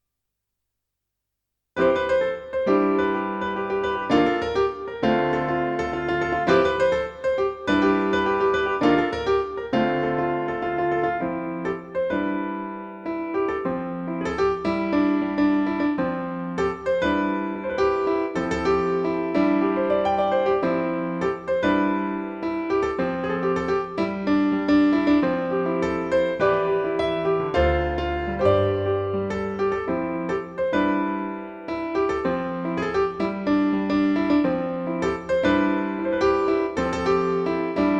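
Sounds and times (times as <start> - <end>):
piano music: 1.8 - 37.9.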